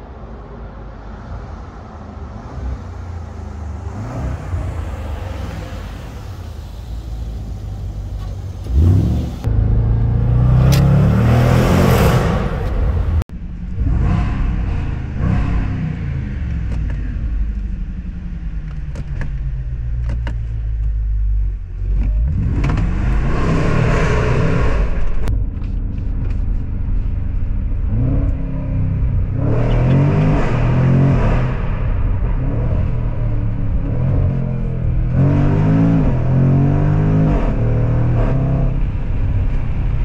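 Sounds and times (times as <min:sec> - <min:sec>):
car engine revving: 0:02.0 - 0:17.4, 0:21.8 - 0:40.0.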